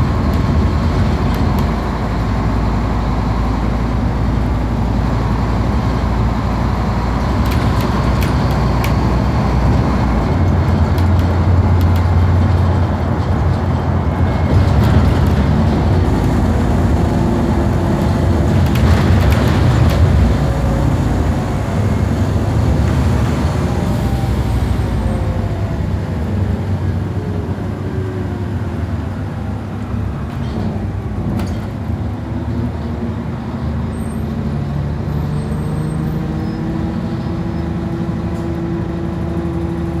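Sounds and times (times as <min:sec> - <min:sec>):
bus engine and road drone: 0:00.0 - 0:40.0.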